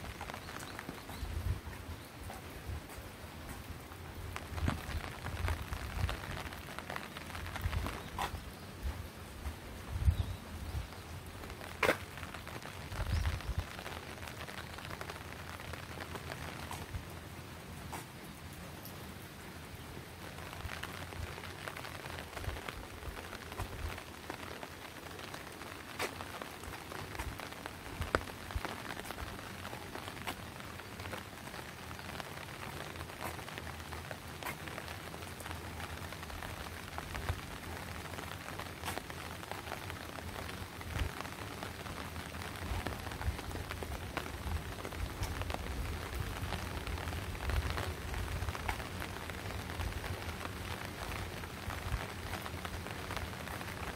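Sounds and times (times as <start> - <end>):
rain drops ticking: 0.0 - 53.9.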